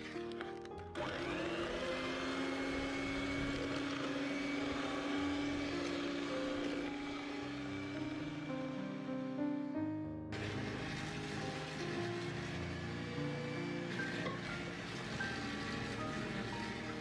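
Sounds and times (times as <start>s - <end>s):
electric hand mixer motor: 0.0s - 9.5s, 10.3s - 17.0s
background music: 0.0s - 17.0s.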